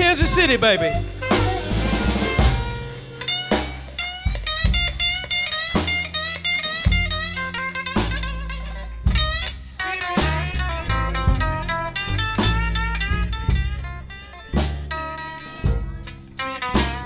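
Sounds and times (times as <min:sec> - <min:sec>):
drums: 0:00.0 - 0:17.0
electric guitar bending notes: 0:00.0 - 0:17.0
walking bass: 0:00.0 - 0:17.0.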